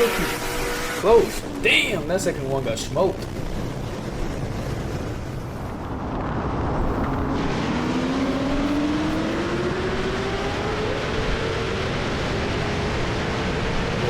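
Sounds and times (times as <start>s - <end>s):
racing car engines at full throttle: 0.0s - 14.0s
road noise: 0.0s - 14.0s.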